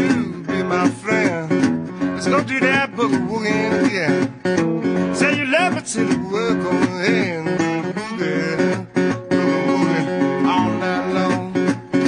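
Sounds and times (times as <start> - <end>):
person singing: 0.0 - 4.4, 5.0 - 12.0
acoustic guitar: 0.0 - 12.0.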